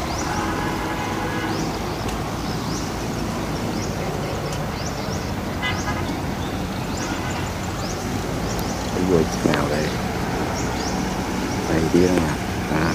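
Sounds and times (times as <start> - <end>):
tractor diesel engines droning: 0.0 - 12.9.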